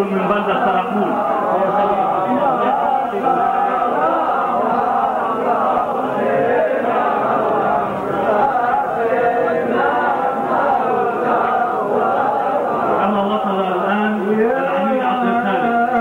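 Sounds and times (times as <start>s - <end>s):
men chanting together: 0.5s - 14.5s.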